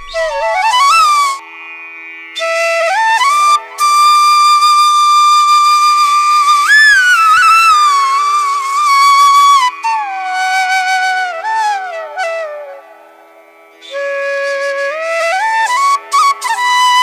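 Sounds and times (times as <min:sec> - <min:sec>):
solo flute melody: 0:00.0 - 0:01.6, 0:02.4 - 0:17.0.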